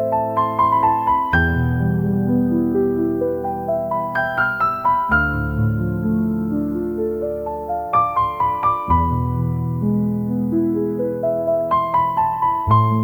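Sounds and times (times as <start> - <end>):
soft instrumental music: 0.0 - 13.0.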